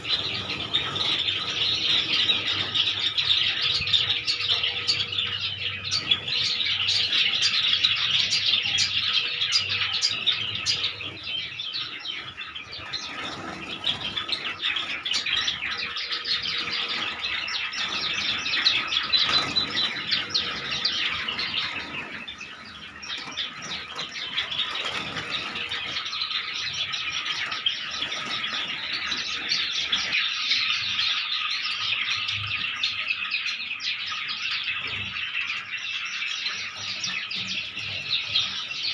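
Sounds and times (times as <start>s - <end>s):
flock of sparrows chirping: 0.0s - 38.9s.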